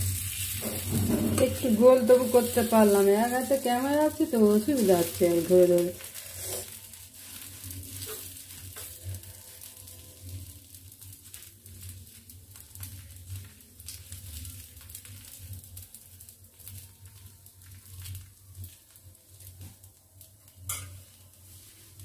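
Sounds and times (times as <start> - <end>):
batter sizzling in a pan: 0.0 - 22.0.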